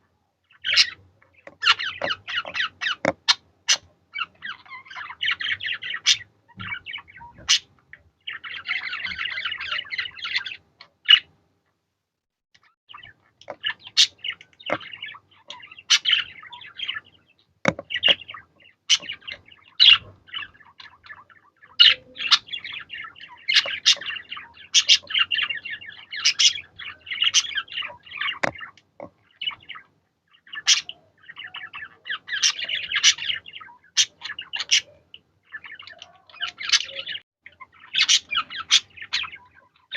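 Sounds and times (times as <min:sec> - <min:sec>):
budgerigars chattering: 0:00.5 - 0:11.3, 0:12.6 - 0:39.9.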